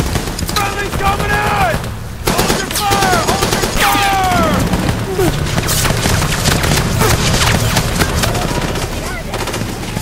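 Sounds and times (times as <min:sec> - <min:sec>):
rapid gunshots cracking: 0:00.0 - 0:10.0
booms and low rumble: 0:00.2 - 0:10.0.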